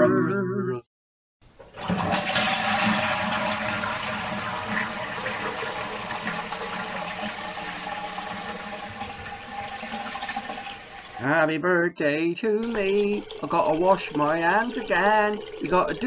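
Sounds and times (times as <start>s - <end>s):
toilet flushing: 1.5s - 11.2s, 12.6s - 16.0s.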